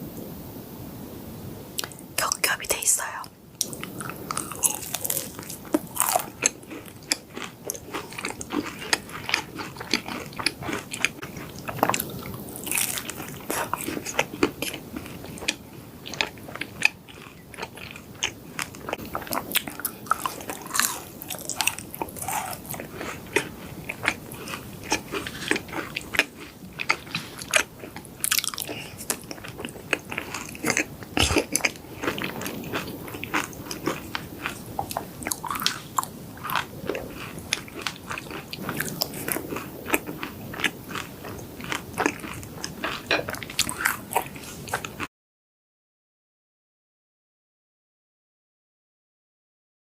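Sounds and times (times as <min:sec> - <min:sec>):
crunchy biting and chewing: 0:03.0 - 0:45.1.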